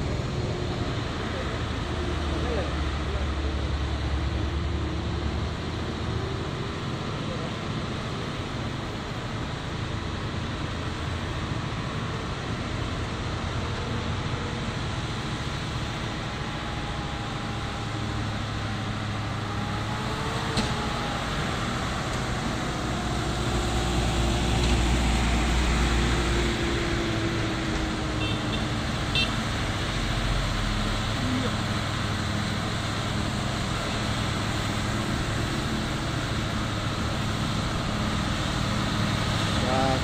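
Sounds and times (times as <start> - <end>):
traffic passing: 0.0 - 40.0
truck diesel engine rumbling: 0.0 - 40.0.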